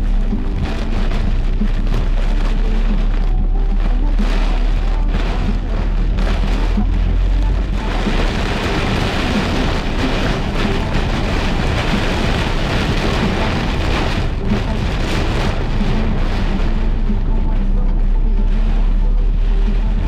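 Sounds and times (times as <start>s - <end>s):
deep low rumble: 0.0s - 20.0s
heavy rain drumming on vehicle: 0.0s - 20.0s.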